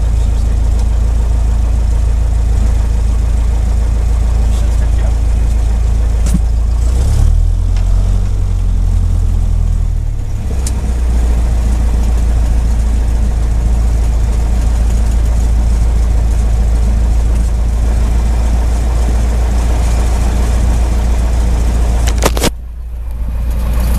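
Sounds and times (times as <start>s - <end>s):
light aircraft engine droning: 0.0s - 6.9s, 7.6s - 23.9s.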